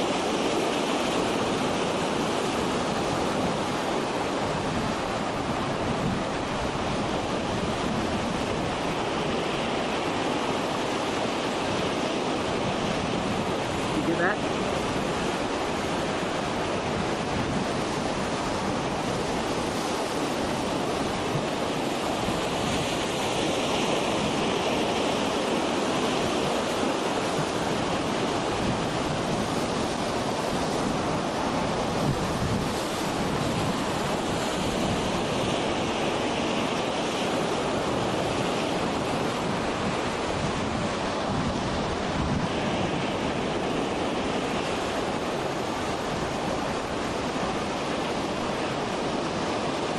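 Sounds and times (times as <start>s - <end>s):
waves breaking on beach: 0.0s - 49.9s
wind on microphone: 0.0s - 49.9s.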